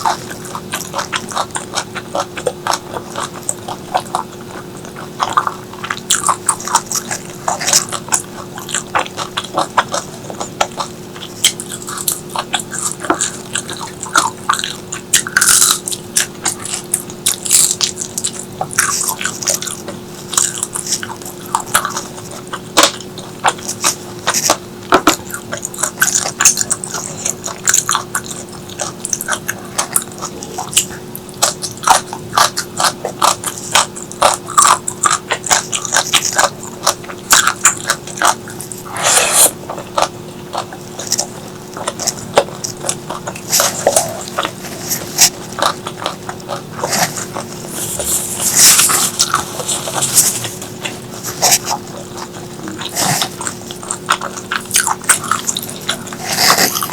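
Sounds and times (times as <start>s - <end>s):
chewing and biting food: 0.0s - 56.9s
faint steady hum: 0.0s - 56.9s.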